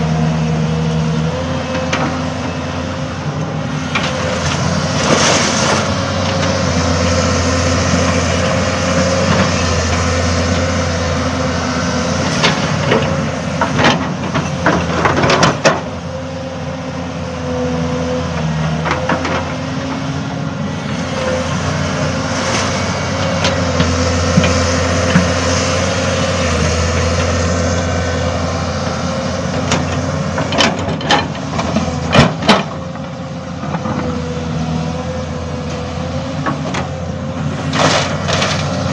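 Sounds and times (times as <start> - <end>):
engine whine: 0.0 - 38.9
excavator diesel engine running: 0.0 - 38.9.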